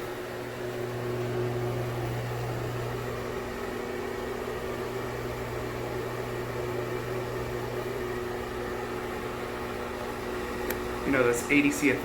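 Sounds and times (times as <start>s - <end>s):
exhaust fan motor hum: 0.0s - 12.0s.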